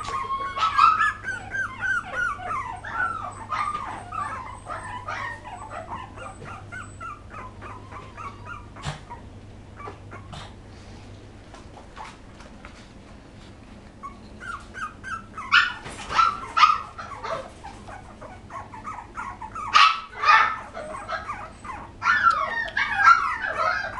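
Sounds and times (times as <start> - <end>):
puppies whining and squealing: 0.0 - 10.6, 13.9 - 23.9.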